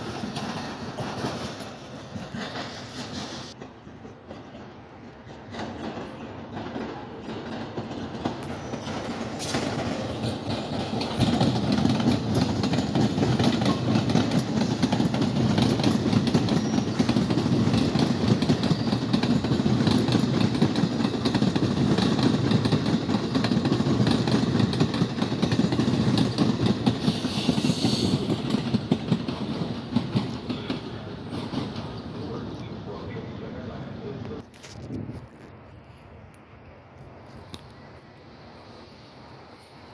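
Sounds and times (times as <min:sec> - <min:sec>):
train wheels clattering: 0:00.0 - 0:32.4.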